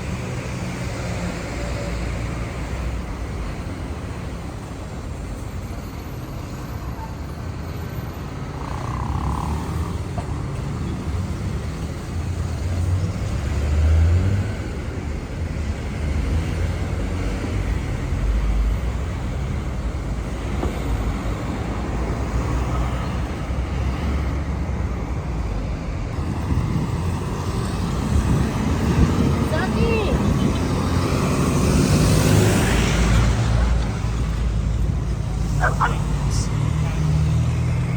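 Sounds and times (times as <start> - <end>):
city road traffic: 0.0 - 37.9.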